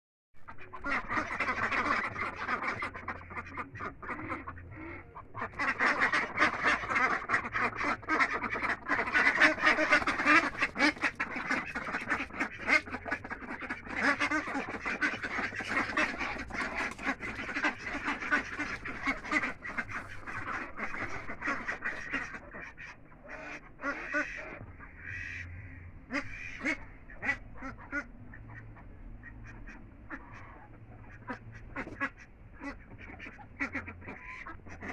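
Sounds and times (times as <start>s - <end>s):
ducks quacking: 0.4s - 34.9s.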